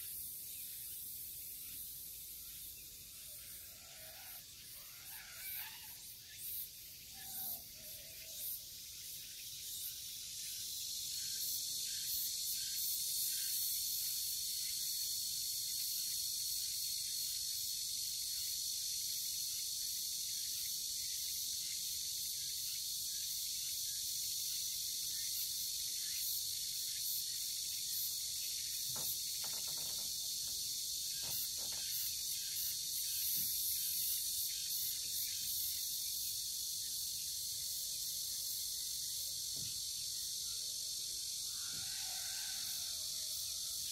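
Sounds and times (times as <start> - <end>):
insects chorus: 0.0 - 43.9.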